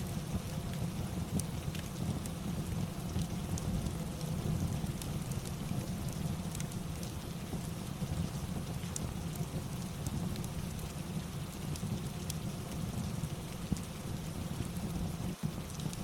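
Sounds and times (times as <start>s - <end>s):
steady rain falling: 0.0s - 16.0s
wood fire crackling: 0.0s - 16.0s.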